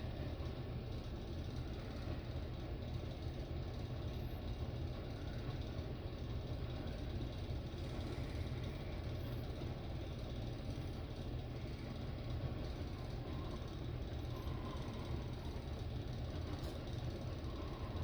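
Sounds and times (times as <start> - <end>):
ceiling fans spinning: 0.0 - 18.0.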